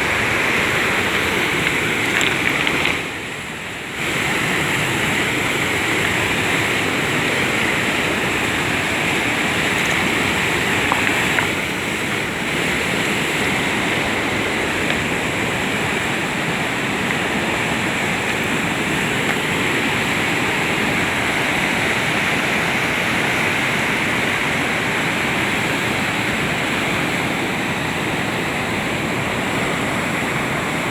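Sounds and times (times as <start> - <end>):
mountain river rushing over rocks: 0.0 - 30.9.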